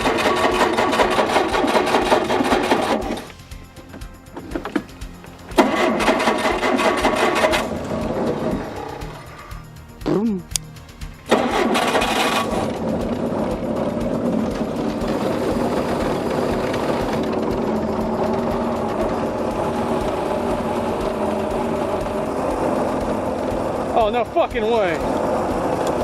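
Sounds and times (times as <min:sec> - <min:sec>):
boat engine starting: 0:00.0 - 0:10.3, 0:11.0 - 0:26.0
boat engine idling: 0:00.0 - 0:26.0.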